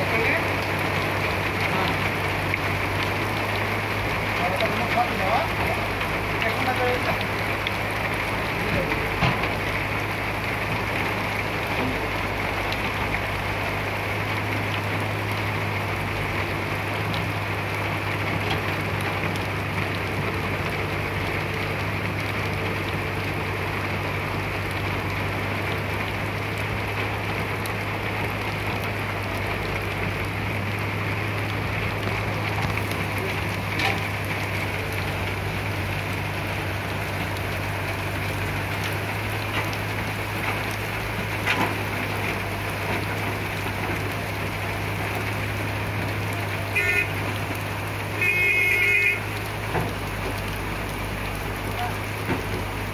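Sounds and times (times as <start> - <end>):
excavator diesel engine humming: 0.0 - 52.9.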